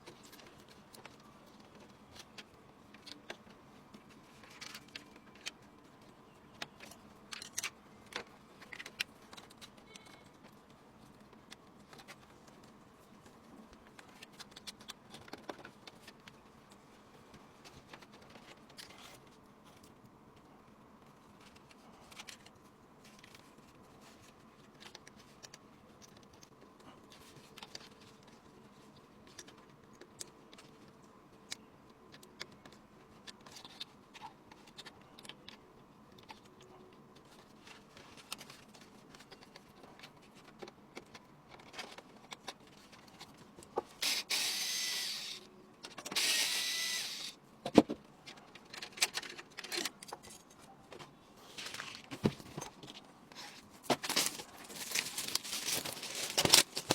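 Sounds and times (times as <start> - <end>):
computer parts clicking and rubbing: 0.0 - 56.9.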